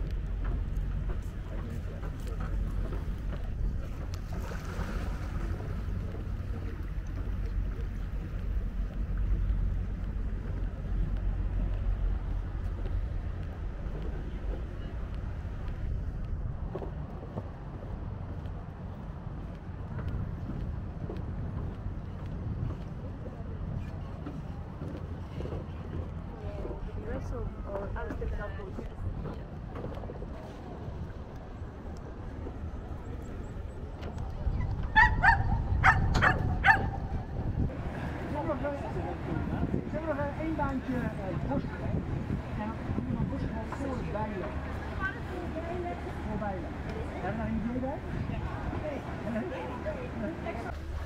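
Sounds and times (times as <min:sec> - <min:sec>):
low rumble: 0:00.0 - 0:51.0
wind buffeting microphone: 0:00.0 - 0:51.0.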